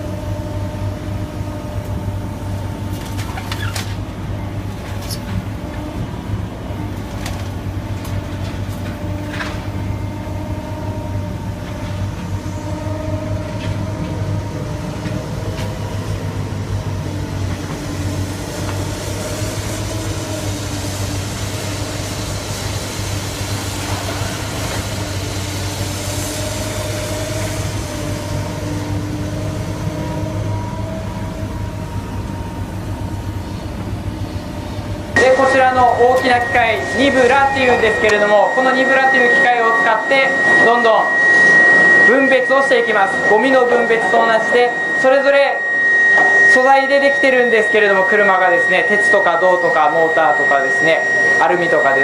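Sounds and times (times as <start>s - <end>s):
heavy machinery engine hum: 0.0s - 46.5s.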